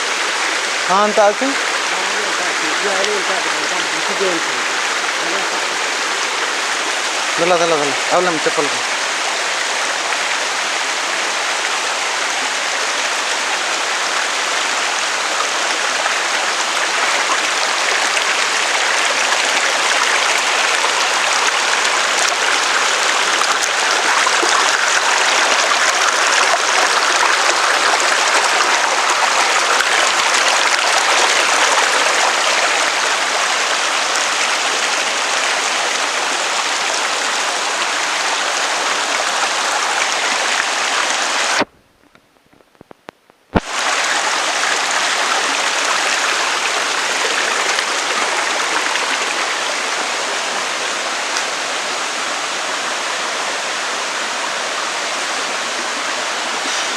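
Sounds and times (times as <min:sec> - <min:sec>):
waterfall rushing: 0:00.0 - 0:41.7, 0:43.6 - 0:56.9.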